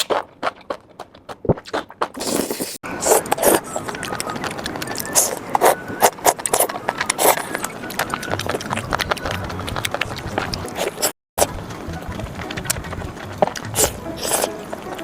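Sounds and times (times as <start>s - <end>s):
chewing clicks and smacks: 0.0s - 15.0s.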